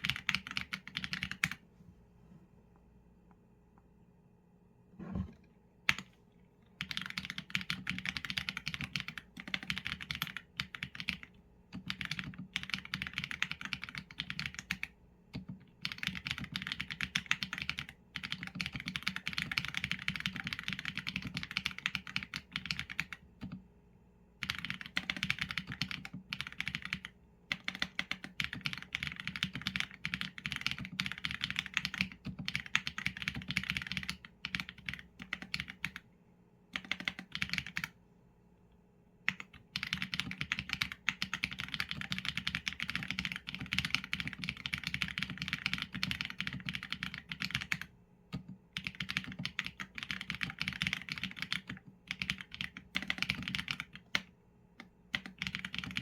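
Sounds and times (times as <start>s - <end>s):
mechanical keyboard typing: 0.0s - 1.6s, 6.8s - 23.6s, 24.4s - 36.0s, 36.8s - 38.0s, 39.3s - 56.0s.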